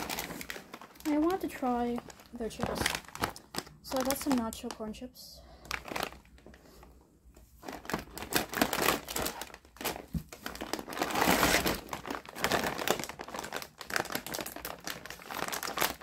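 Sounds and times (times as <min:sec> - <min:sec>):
snack packaging crinkling: 0:00.0 - 0:05.0, 0:05.6 - 0:06.9, 0:07.6 - 0:16.0.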